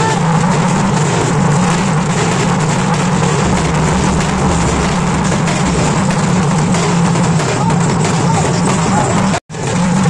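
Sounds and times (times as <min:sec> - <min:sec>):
crowd noise: 0:00.0 - 0:10.0
drums beating rapidly: 0:00.0 - 0:10.0.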